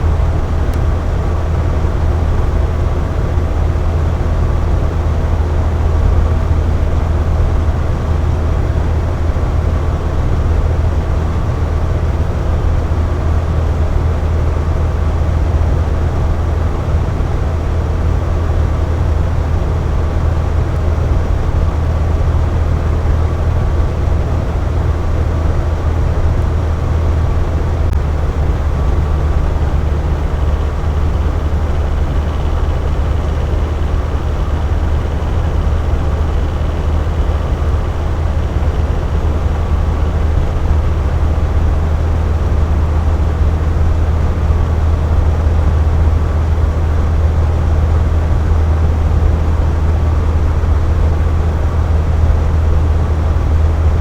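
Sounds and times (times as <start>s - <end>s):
faint motor hum: 0.0s - 54.0s.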